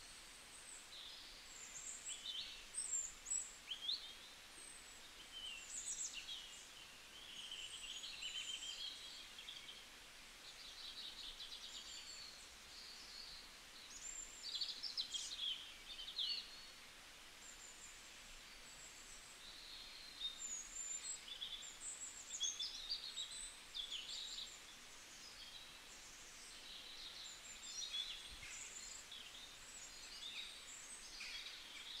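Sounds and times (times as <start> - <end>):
faint background hiss: 0.0 - 32.0
songbirds chirping and trilling: 0.0 - 32.0.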